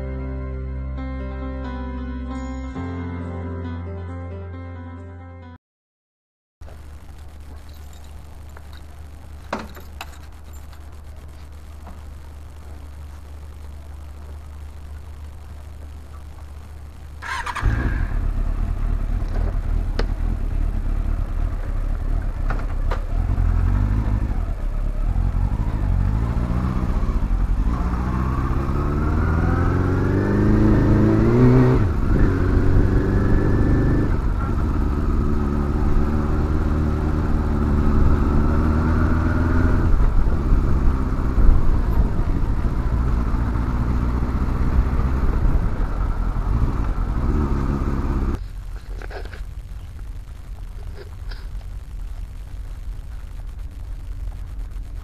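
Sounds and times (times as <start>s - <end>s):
motorcycle engine accelerating: 6.6s - 55.0s.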